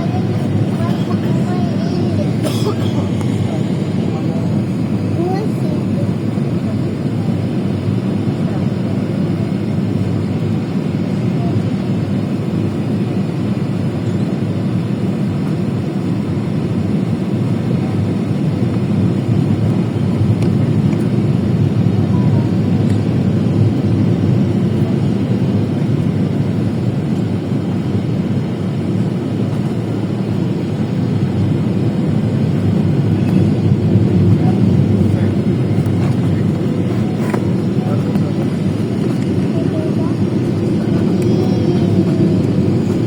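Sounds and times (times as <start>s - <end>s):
jet engine cabin rumble: 0.0s - 43.0s.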